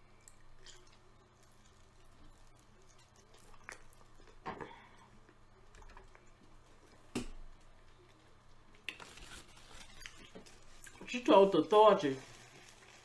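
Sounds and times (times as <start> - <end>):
person chewing food: 0.0 - 11.1.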